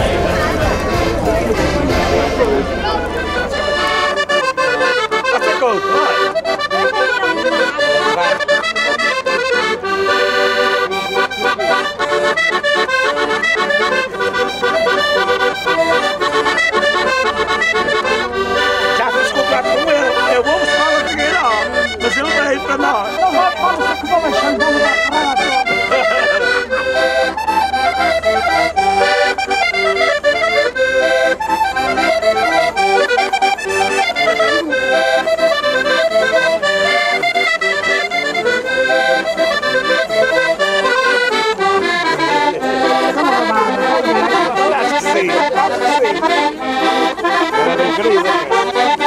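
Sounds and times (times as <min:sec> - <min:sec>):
accordion playing quick notes: 0:00.0 - 0:49.0.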